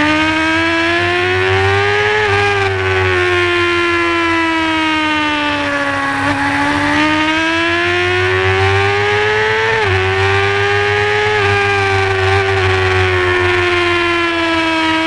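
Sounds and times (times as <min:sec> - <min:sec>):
motorcycle engine screaming: 0:00.0 - 0:15.0.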